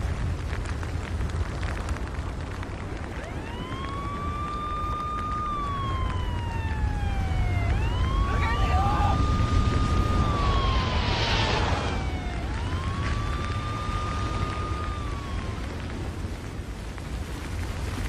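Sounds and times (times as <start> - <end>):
crackles: 0.0 - 18.0
steady low rumble: 0.0 - 18.0
siren wailing: 2.8 - 17.4.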